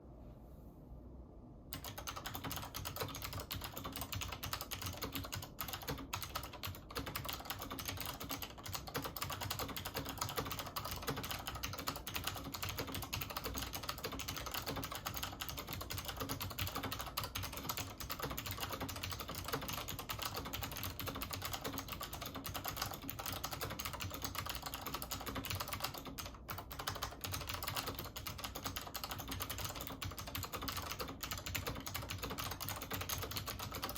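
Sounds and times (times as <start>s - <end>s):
fast typing on clicky keyboard: 1.7s - 33.9s.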